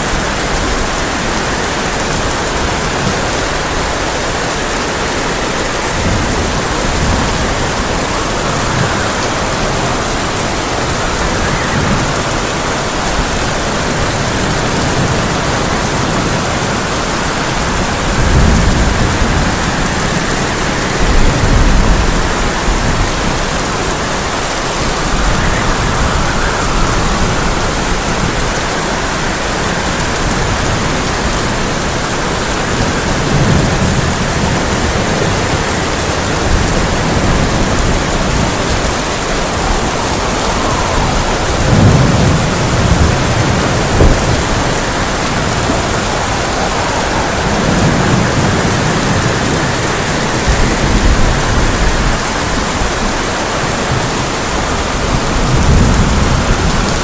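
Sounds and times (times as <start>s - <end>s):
heavy rain on a tin roof: 0.0s - 57.0s
thunder rumbling: 0.0s - 57.0s.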